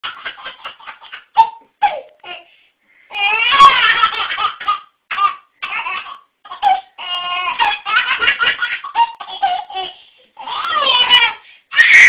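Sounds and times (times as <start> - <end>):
baby laughing: 0.0 - 2.5, 3.2 - 12.0.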